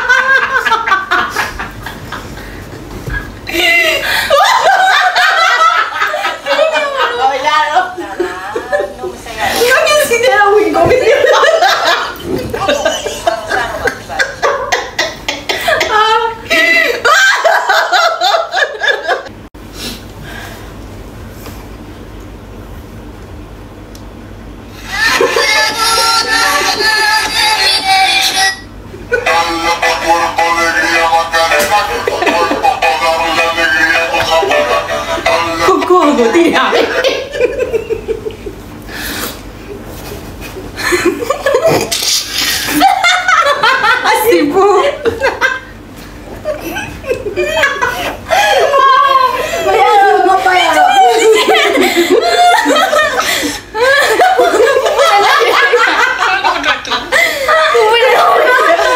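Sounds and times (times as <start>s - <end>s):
women laughing and giggling: 0.0s - 19.4s, 24.8s - 27.1s, 31.4s - 38.7s, 39.7s - 41.9s, 42.5s - 58.9s.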